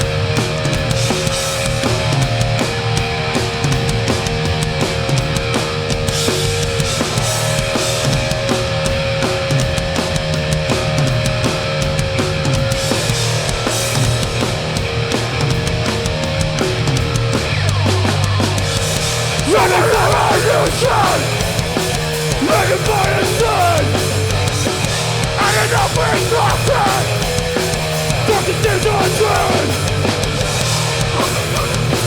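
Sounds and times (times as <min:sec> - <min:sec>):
bass guitar: 0:00.0 - 0:32.0
distorted electric guitars: 0:00.0 - 0:32.0
drum kit fast beat: 0:00.0 - 0:32.0.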